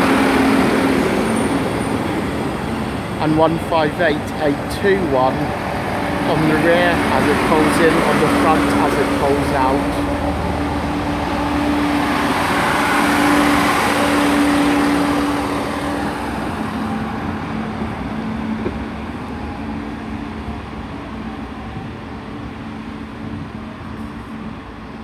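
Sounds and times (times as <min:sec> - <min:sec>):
diesel train pulling in: 0:00.0 - 0:25.0.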